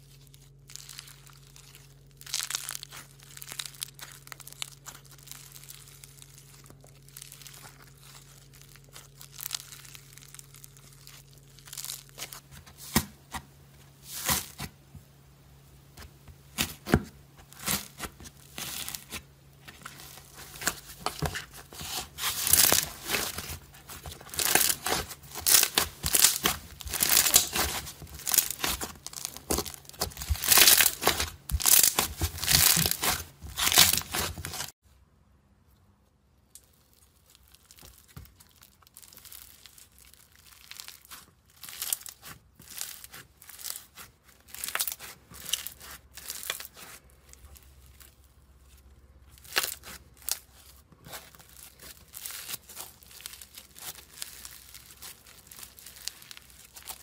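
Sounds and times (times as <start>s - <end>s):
slime crackling and popping: 0.0s - 13.4s, 16.0s - 34.8s, 36.5s - 57.0s.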